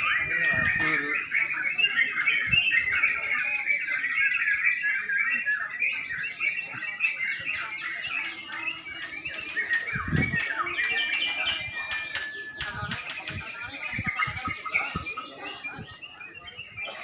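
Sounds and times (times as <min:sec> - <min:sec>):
songbirds chirping and whistling: 0:00.0 - 0:17.0.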